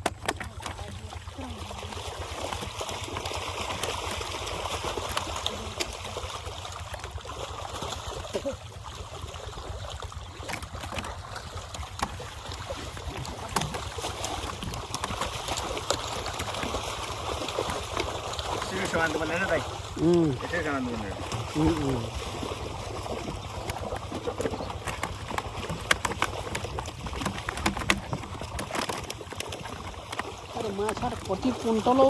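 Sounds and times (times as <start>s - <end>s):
water sloshing and splashing: 0.0s - 32.0s.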